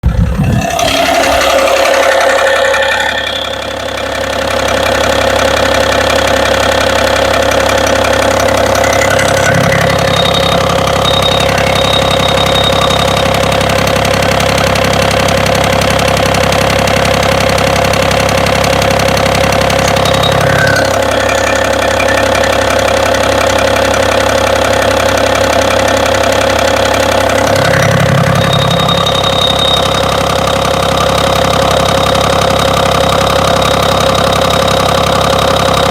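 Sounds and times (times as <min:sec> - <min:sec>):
low hum: 0:00.0 - 0:14.8, 0:15.6 - 0:32.3
car engine knocking: 0:00.8 - 0:35.9.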